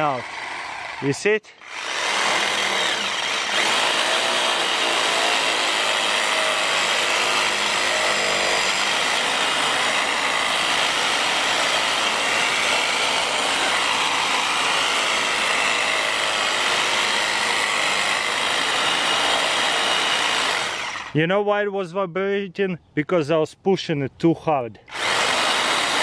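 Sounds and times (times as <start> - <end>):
electric saw cutting branch: 0.0 - 21.2, 24.9 - 26.0.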